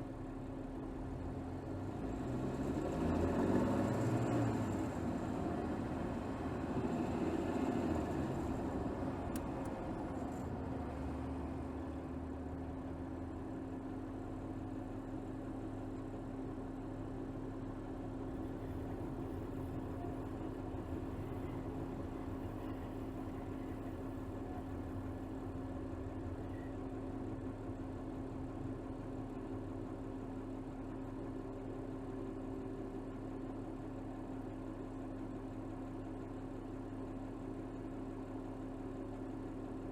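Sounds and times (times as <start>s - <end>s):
car engine idling with hum: 0.0s - 39.9s.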